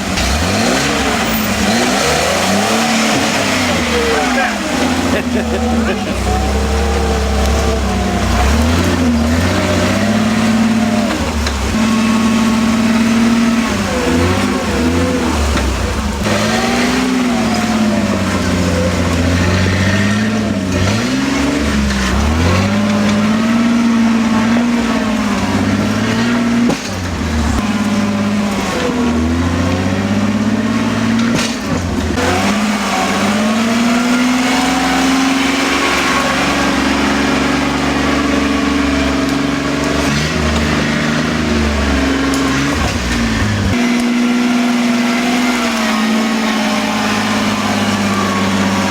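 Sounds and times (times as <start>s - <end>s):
engine revving: 0.0s - 48.9s.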